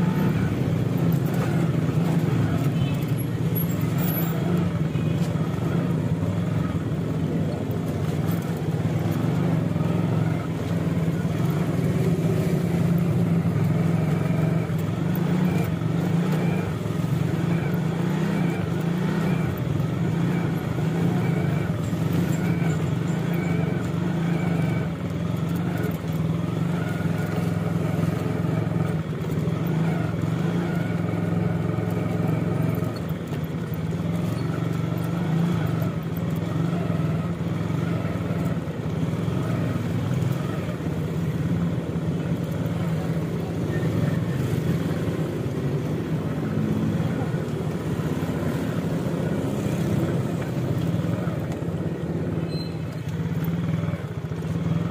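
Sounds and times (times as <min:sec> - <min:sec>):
street traffic: 0:00.0 - 0:54.9
vehicle engine running: 0:00.0 - 0:54.9.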